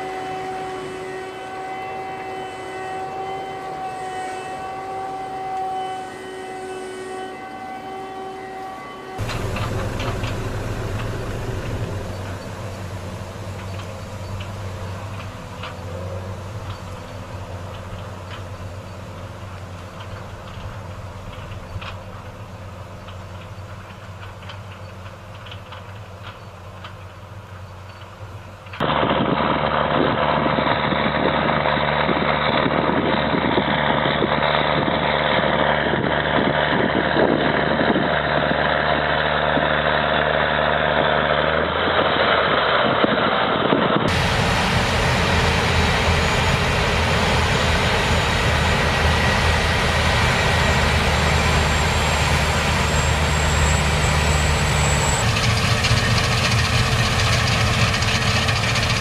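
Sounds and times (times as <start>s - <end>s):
heavy machine engines running: 9.2s - 59.0s.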